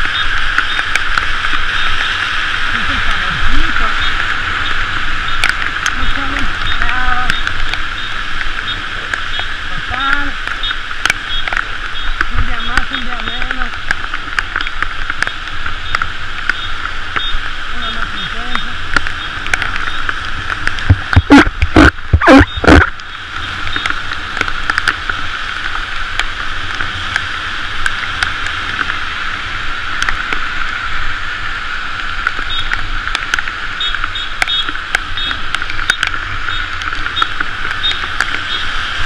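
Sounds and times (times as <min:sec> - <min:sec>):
traffic: 0:00.0 - 0:39.0
tyres hissing on wet road: 0:00.0 - 0:39.0
wind rumble: 0:00.0 - 0:39.0.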